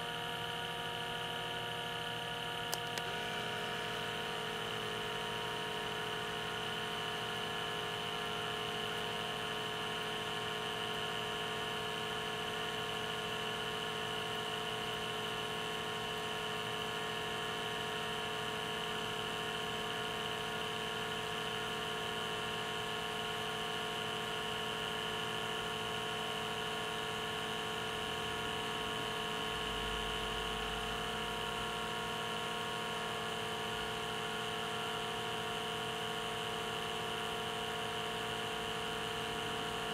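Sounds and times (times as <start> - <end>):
electric vacuum pump whirring: 0.0 - 39.9.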